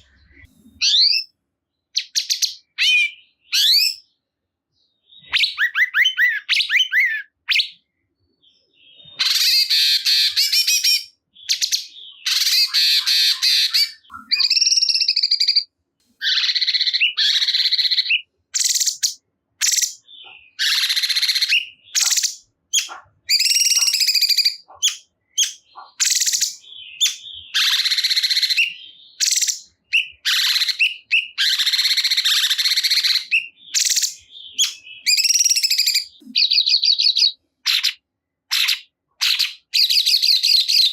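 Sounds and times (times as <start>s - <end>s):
songbird chattering song: 0.0s - 40.9s.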